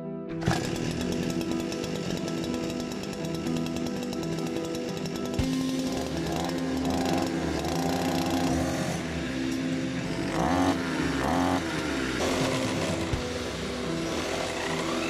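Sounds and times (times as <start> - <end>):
brush cutter engine revving: 0.4 - 15.0.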